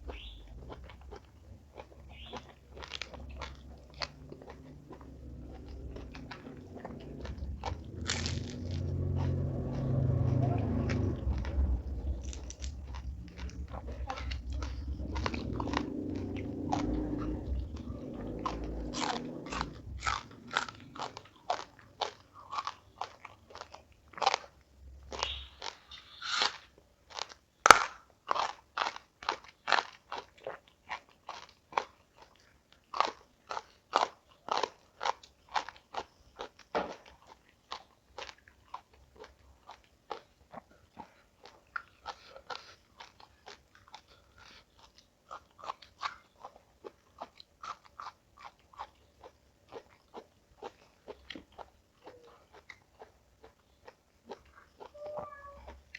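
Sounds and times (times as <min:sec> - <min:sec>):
chewing crunchy food: 0:00.0 - 0:55.9.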